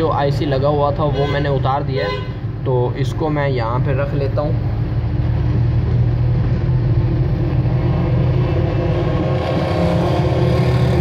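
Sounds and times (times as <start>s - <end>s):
constant low drone: 0.0s - 11.0s
machinery humming: 0.0s - 11.0s.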